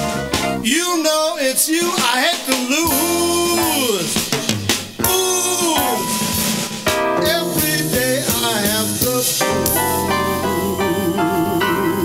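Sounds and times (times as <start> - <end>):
blues band playing: 0.0 - 12.0.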